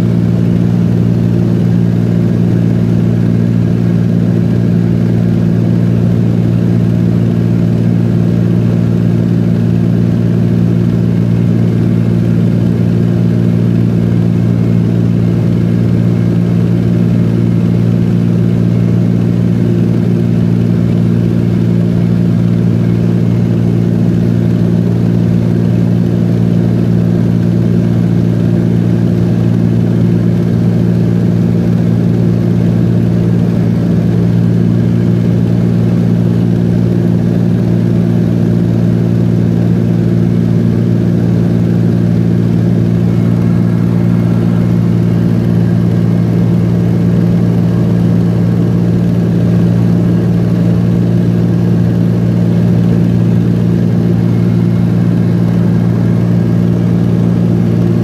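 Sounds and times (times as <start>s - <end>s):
small plane engine humming: 0.0s - 58.0s.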